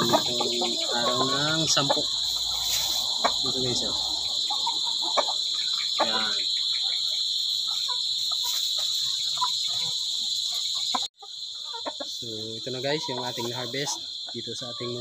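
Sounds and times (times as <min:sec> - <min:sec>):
chicken clucking: 0:00.0 - 0:15.0
insects chirring: 0:00.0 - 0:15.0.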